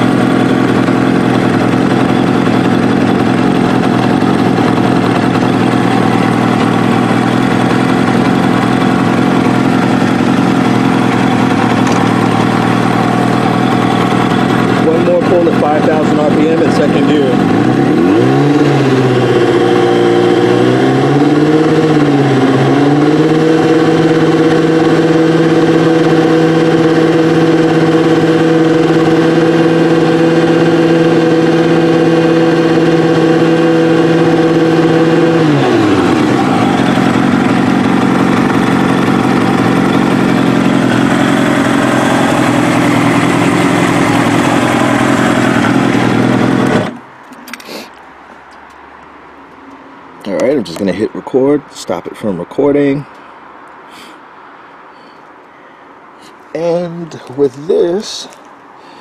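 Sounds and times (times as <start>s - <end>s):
motorcycle engine revving: 0.0s - 47.8s, 50.2s - 53.2s, 56.2s - 59.0s.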